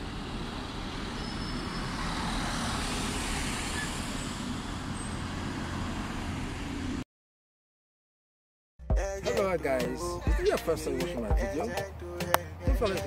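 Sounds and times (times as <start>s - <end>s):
vehicles passing: 0.0s - 7.0s, 9.1s - 13.0s.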